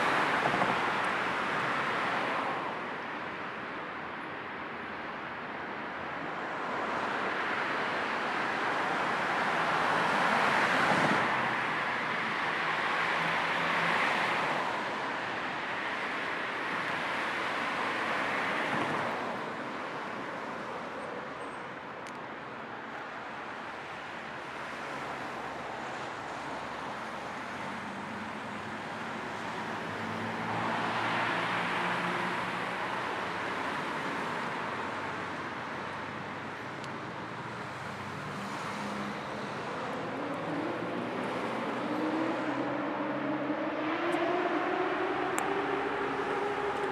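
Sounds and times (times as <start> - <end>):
tyre and road noise: 0.0 - 46.9.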